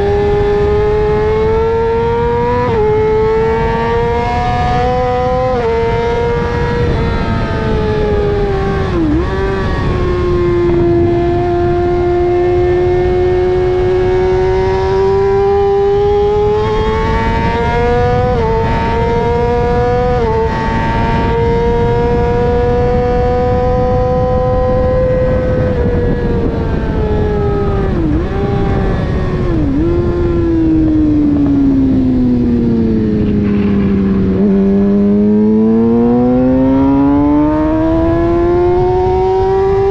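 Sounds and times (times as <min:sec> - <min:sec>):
wind rushing: 0:00.0 - 0:39.8
motorcycle engine at speed: 0:00.0 - 0:39.9.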